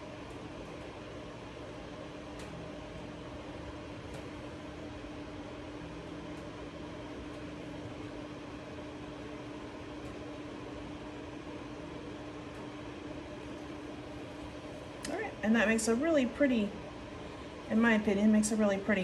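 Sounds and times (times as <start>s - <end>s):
machine motor hum: 0.0s - 19.0s.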